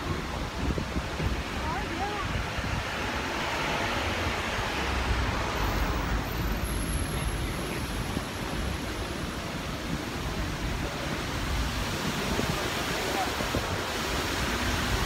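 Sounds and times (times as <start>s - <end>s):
street traffic: 0.0s - 15.0s
wind rumbling on microphone: 0.0s - 15.0s.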